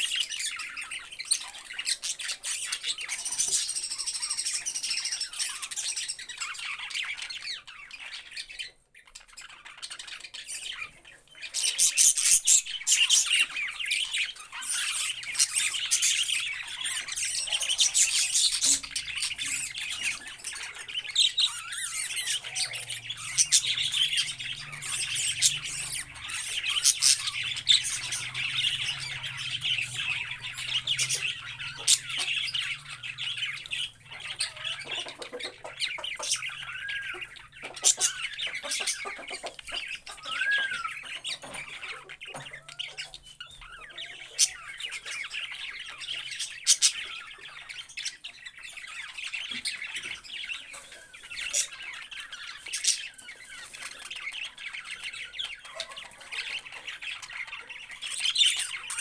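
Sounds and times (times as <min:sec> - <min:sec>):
budgerigars chattering and warbling: 0:00.0 - 0:59.0
whistled bird notes: 0:00.0 - 0:59.0.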